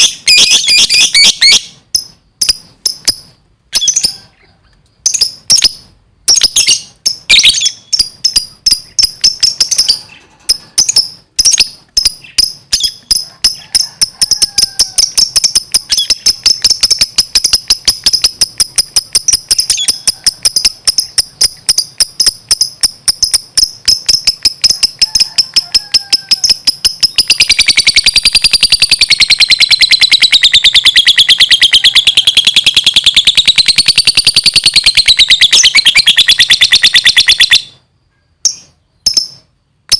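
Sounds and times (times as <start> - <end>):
lovebird chattering: 0.0 - 37.7.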